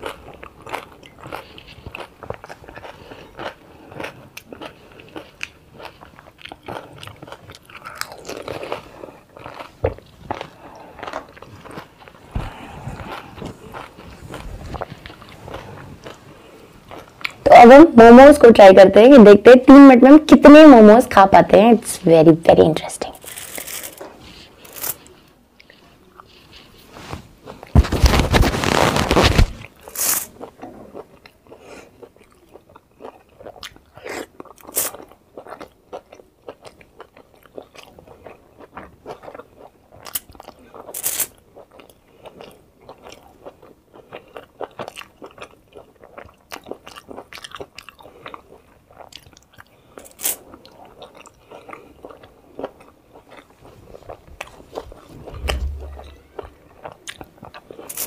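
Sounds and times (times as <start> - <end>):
biting and chewing dumplings: 0.0 - 17.4, 23.2 - 58.0.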